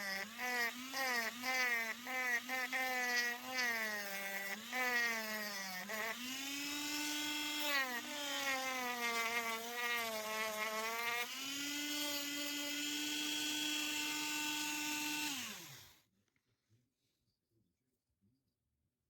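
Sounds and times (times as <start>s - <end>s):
small power tool motor whining: 0.0s - 16.0s.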